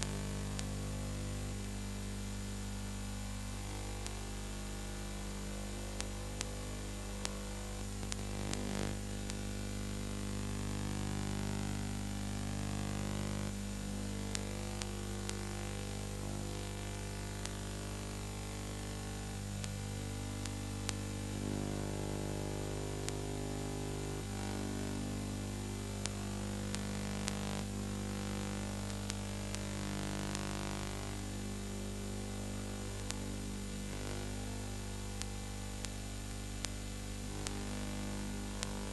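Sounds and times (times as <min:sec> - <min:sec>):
crackling clicks: 0:00.0 - 0:00.9, 0:03.6 - 0:04.6, 0:05.3 - 0:31.4, 0:32.4 - 0:34.4, 0:35.0 - 0:38.9
electrical mains hum: 0:00.0 - 0:38.9.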